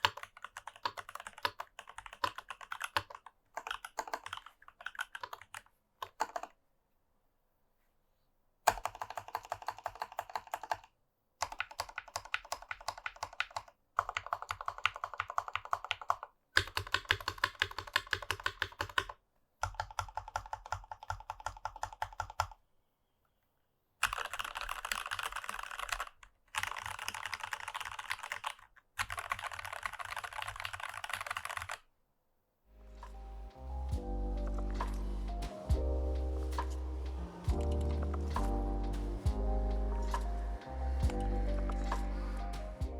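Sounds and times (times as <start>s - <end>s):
typing on mechanical keyboard: 0.0s - 6.6s, 8.7s - 22.6s, 24.0s - 31.9s, 33.9s - 42.9s.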